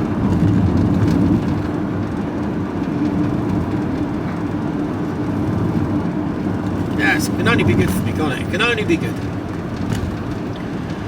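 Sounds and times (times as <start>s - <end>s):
vehicle engine and road drone: 0.0s - 11.0s.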